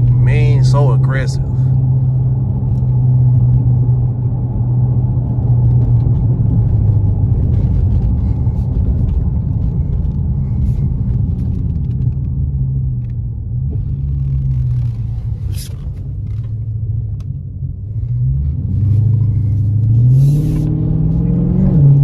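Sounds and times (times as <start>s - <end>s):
car engine rumbling while driving: 0.0s - 22.0s.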